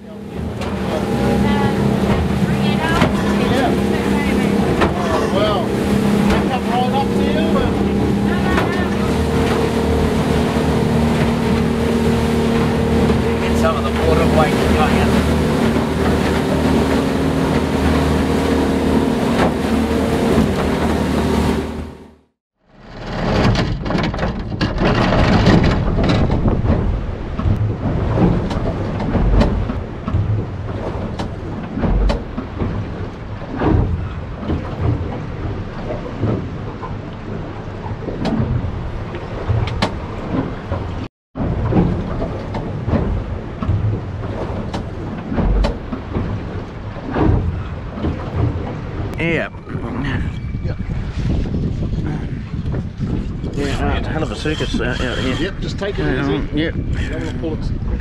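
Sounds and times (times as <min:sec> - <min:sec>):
motorboat engine running: 0:00.0 - 0:58.0
rough rumbling with thumps: 0:00.0 - 0:58.0.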